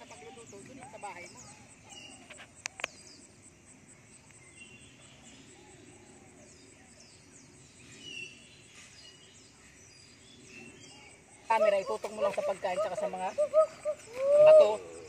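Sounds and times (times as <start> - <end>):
background hum: 0.0 - 15.0
small birds chirping: 0.0 - 15.0.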